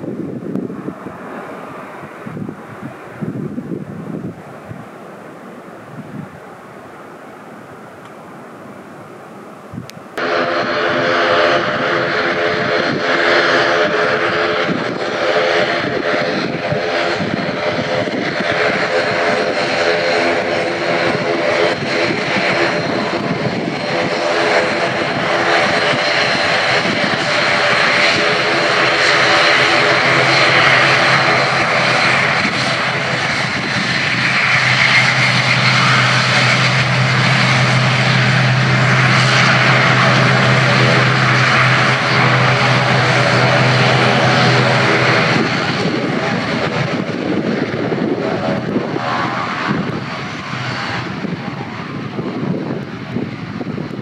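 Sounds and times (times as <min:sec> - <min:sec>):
deep low propeller hum: 0:00.0 - 0:54.0
propeller drone: 0:00.0 - 0:54.0.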